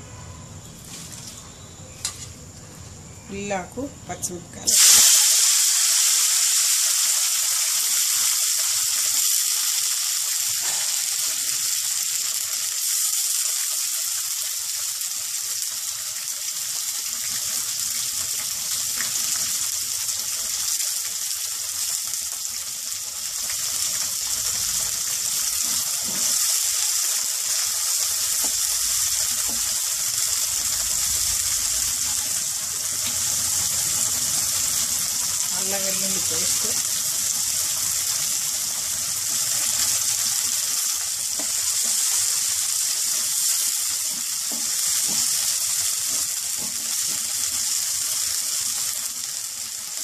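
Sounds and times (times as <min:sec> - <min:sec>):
vegetables sizzling in hot oil: 0:03.0 - 0:50.0.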